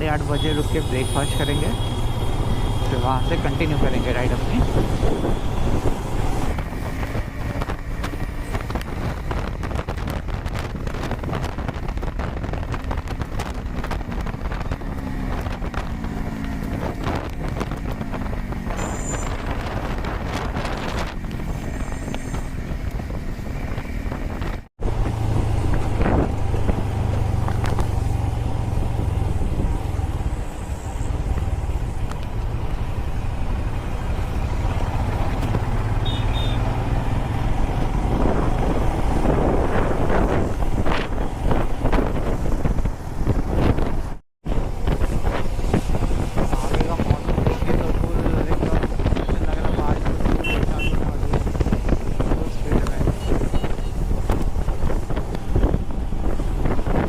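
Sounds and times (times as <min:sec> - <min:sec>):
tyre and traffic noise: 0:00.0 - 0:57.0
wind rushing over microphone: 0:00.0 - 0:57.0.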